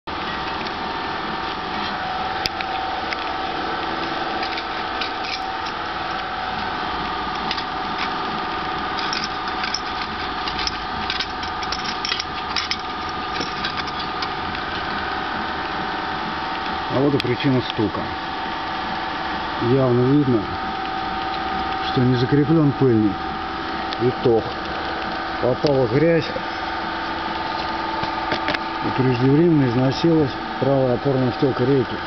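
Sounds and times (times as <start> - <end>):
steady mechanical hum: 0.1 - 32.0.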